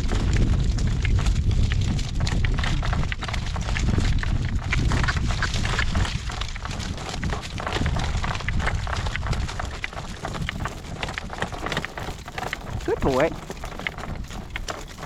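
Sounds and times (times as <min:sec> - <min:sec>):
horse hooves clattering: 0:00.0 - 0:15.0
wind buffeting microphone: 0:00.0 - 0:15.0.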